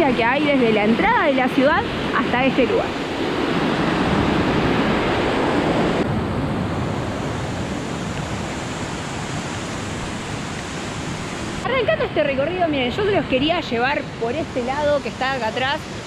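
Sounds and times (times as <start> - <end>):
rushing white water rapids: 0.0 - 16.0.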